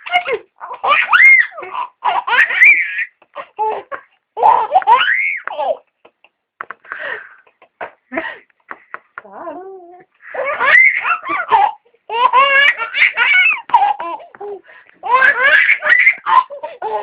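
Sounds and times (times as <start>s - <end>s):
baby laughing: 0.0s - 8.0s, 10.2s - 17.0s.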